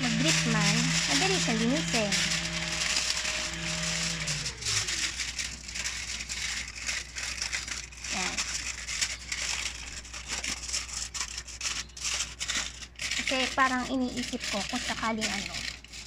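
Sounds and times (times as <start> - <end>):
foil crinkling: 0.0 - 16.0.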